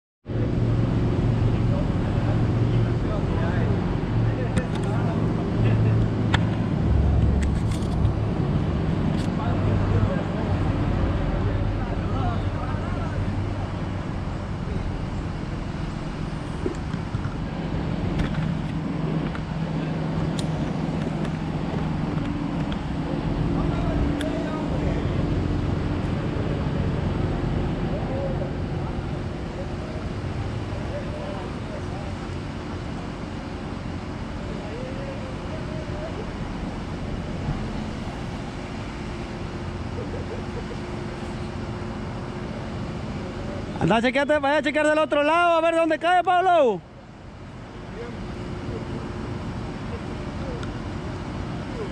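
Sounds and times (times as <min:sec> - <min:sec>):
engine humming: 0:00.3 - 0:44.9.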